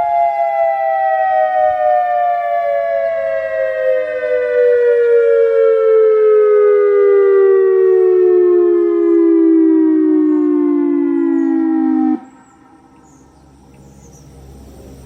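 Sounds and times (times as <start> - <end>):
warning siren wailing: 0.0 - 13.9.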